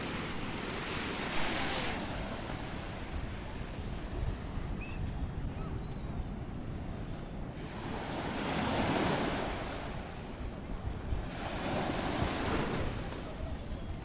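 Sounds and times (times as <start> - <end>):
sea waves breaking: 0.0 - 5.8, 6.5 - 14.0
wind buffeting microphone: 0.0 - 14.0.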